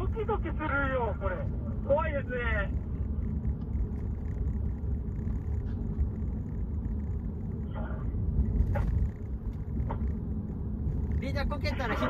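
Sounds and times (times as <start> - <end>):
wind noise: 1.2 - 12.0.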